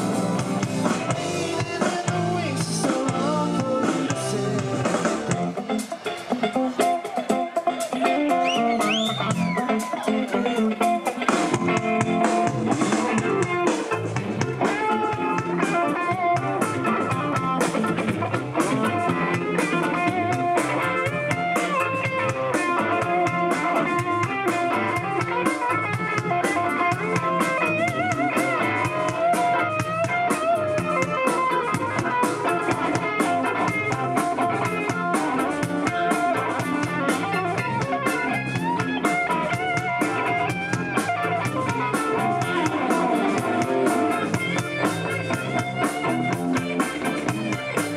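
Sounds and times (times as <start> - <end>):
electric guitar lead lines: 0.0 - 47.9
rock band playing live: 0.0 - 47.9.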